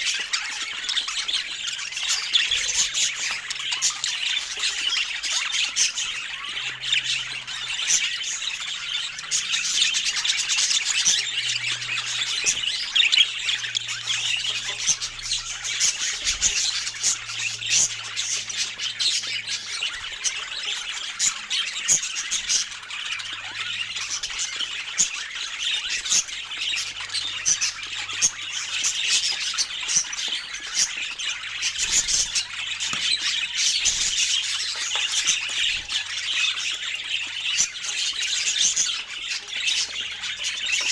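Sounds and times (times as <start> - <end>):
parakeets chattering: 0.0 - 40.9.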